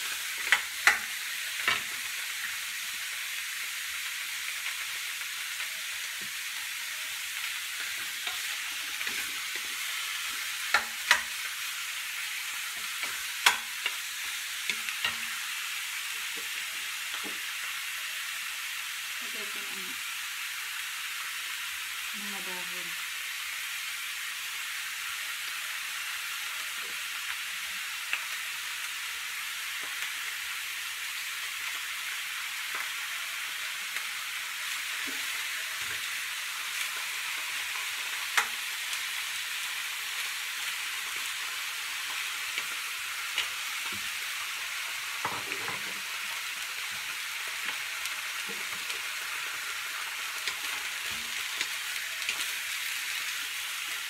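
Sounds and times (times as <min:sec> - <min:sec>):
meat sizzling in oil: 0:00.0 - 0:54.0.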